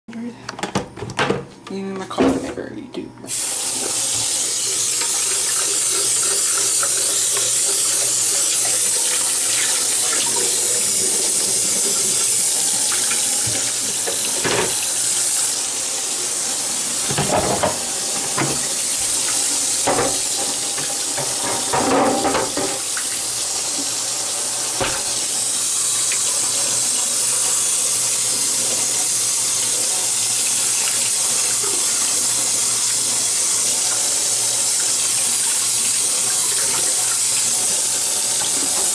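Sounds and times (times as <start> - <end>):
tap water running into sink: 3.3 - 38.9.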